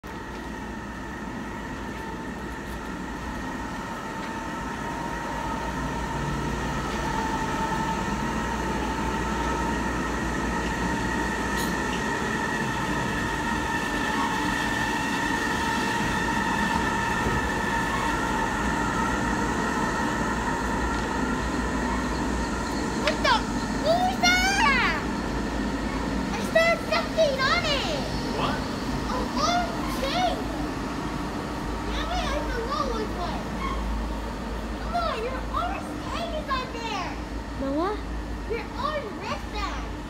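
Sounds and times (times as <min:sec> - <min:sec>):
tram whine and rumble: 0:00.0 - 0:40.0.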